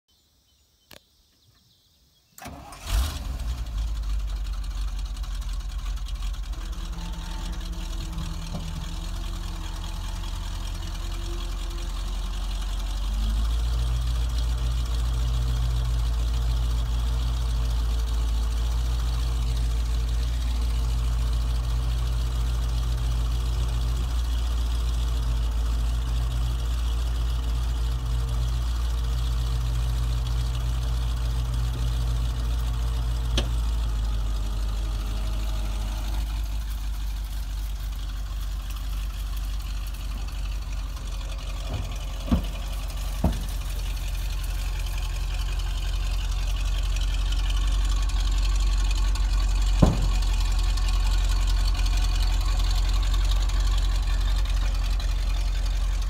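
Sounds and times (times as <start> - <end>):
truck engine cranking: 2.4 - 56.0
truck engine idling: 2.4 - 56.0.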